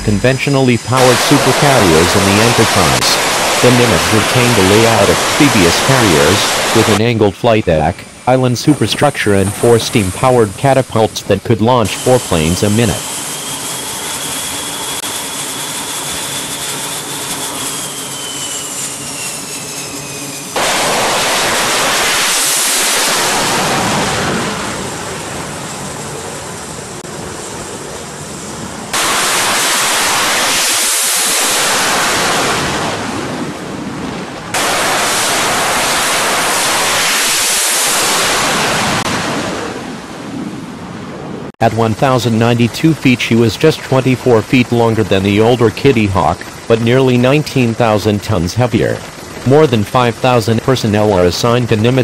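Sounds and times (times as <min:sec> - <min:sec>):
jet engines whining: 0:00.0 - 0:52.0
jet takeoffs: 0:00.0 - 0:52.0.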